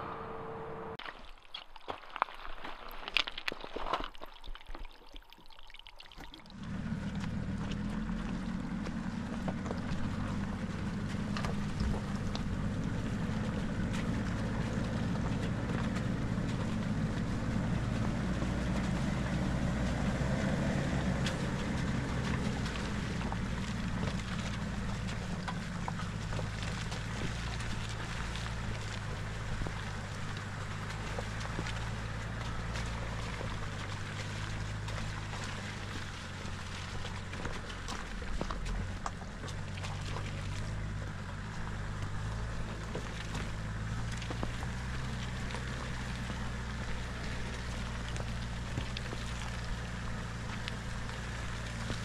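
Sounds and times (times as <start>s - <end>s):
diesel engine running: 0.0s - 1.0s, 6.5s - 52.0s
stones crunching under tyres: 0.1s - 5.0s, 6.2s - 52.0s.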